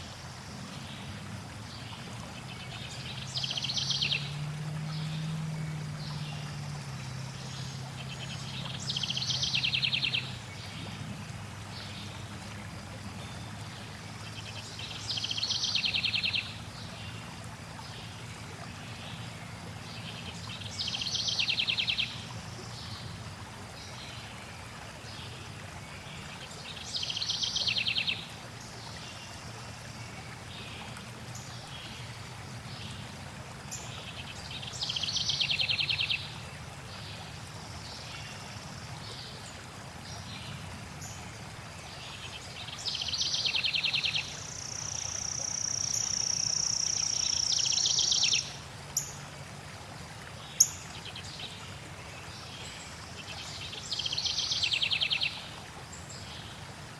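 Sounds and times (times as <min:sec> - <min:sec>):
songbirds singing: 0:00.0 - 0:49.4, 0:50.3 - 0:56.6
flowing water rushing: 0:00.0 - 0:56.9.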